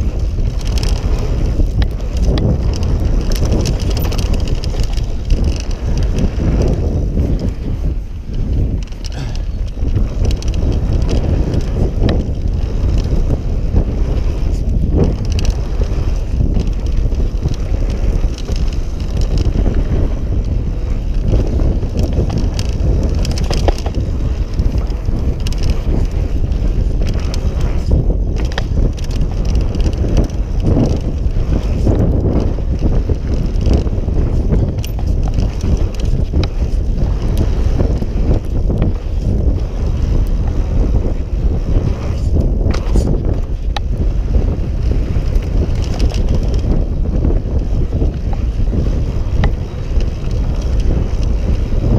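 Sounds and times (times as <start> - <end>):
bike knocking and rattling: 0.0 - 51.9
bike tyres on dirt: 0.0 - 51.9
wind buffeting microphone: 0.0 - 51.9.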